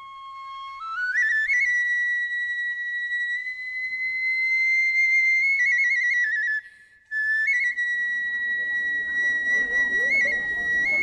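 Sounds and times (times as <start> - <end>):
bamboo flute playing trills: 0.0 - 11.0.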